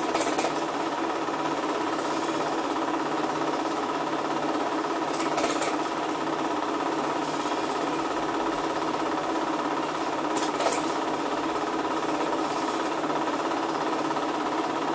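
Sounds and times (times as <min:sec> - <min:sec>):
film projector clattering: 0:00.0 - 0:14.9.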